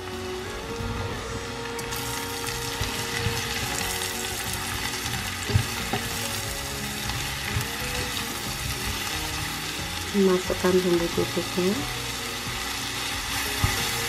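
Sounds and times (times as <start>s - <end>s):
vegetables sizzling in a frying pan: 0.0s - 14.0s.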